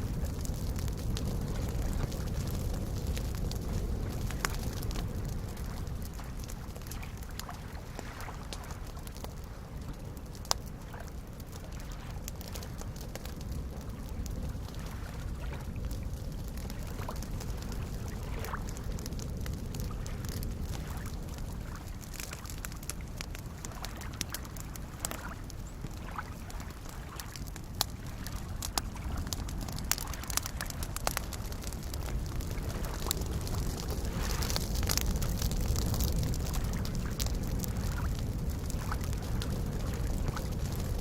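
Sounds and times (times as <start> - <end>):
campfire crackling and popping: 0.0 - 41.0.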